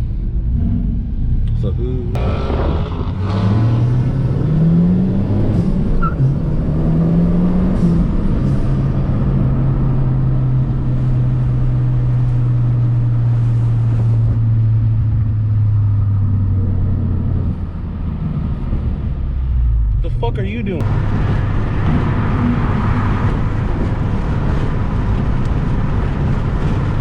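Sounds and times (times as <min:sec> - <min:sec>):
car engine accelerating and cruising: 0:00.0 - 0:27.0.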